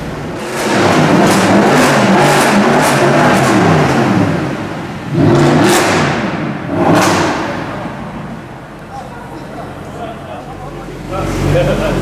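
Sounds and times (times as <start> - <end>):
car engine revving: 0.0 - 8.9, 10.5 - 12.0.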